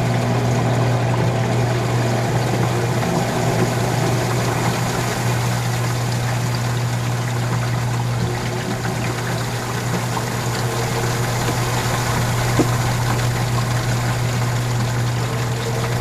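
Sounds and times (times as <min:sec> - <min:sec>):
washing machine pump hum: 0:00.0 - 0:16.0
water pouring and flowing: 0:00.0 - 0:16.0.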